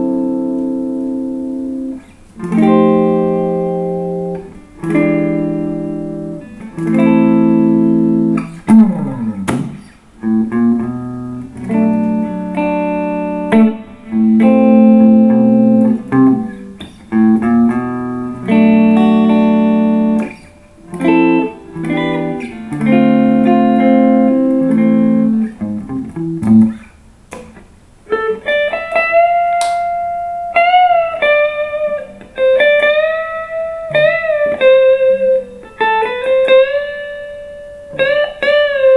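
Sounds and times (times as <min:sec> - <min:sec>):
clean electric guitar playing: 0:00.0 - 0:38.9.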